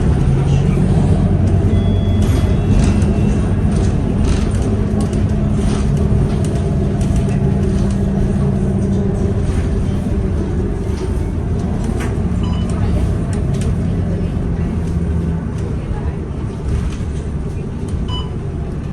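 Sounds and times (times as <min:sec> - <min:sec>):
bus engine droning: 0:00.0 - 0:18.9
rattles and clicks: 0:00.1 - 0:15.7.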